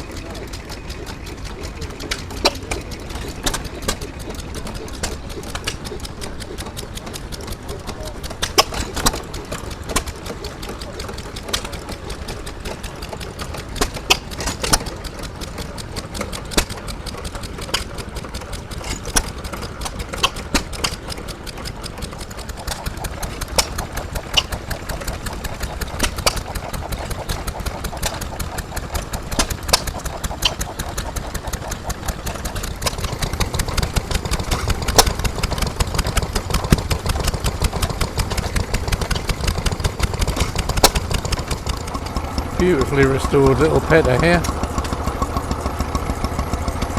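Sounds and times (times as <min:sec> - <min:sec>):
sharp engine ticks and knocks: 0:00.0 - 0:46.9
stationary engines running: 0:00.0 - 0:46.9.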